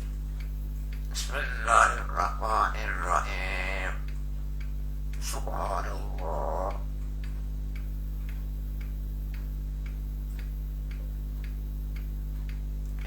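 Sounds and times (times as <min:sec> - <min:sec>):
faint even ticking: 0:00.0 - 0:13.0
steady low hum: 0:00.0 - 0:13.0.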